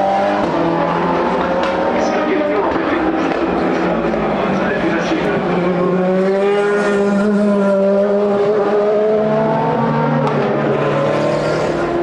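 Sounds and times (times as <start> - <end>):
racing car engines at high revs: 0.0 - 12.0.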